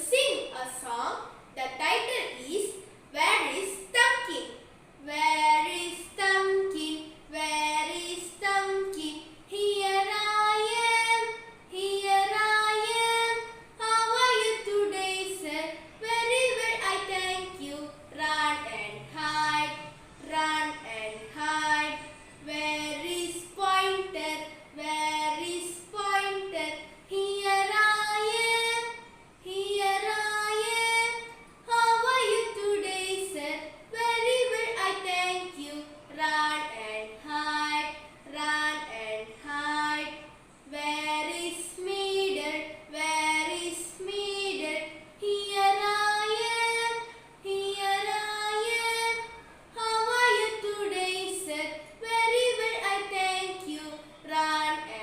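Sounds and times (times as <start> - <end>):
girl singing: 0.0 - 55.0.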